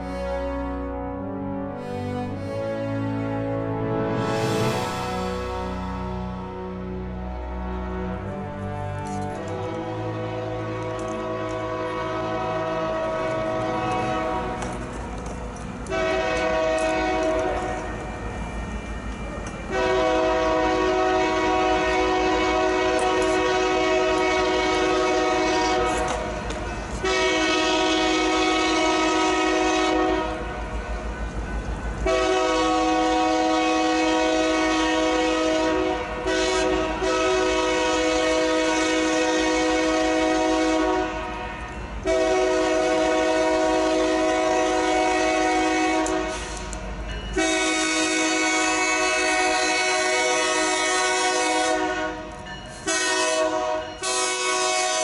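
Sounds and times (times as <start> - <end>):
locomotive air horn blasts: 0.0 - 15.0, 15.9 - 17.9, 19.7 - 30.5, 32.0 - 46.8, 47.4 - 55.0
train rumble: 0.0 - 55.0.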